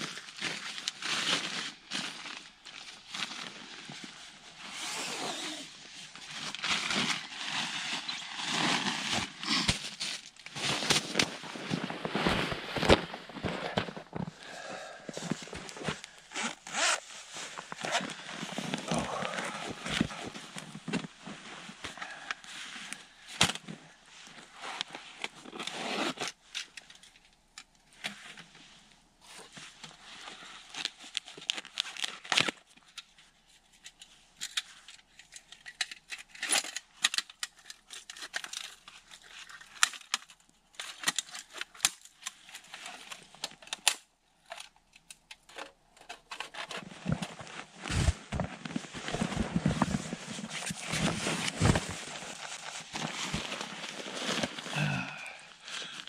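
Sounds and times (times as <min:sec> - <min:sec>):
rustling and crinkling: 0:00.0 - 0:56.0.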